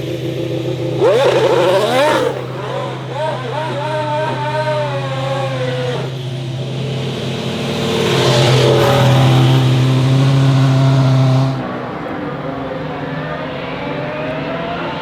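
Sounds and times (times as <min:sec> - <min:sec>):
racing car engine passing: 0:00.0 - 0:15.0.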